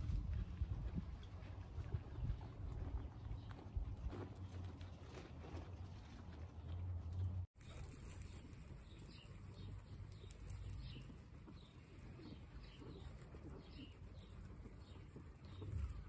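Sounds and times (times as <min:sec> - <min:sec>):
guinea pigs nibbling grass: 0:00.0 - 0:16.0.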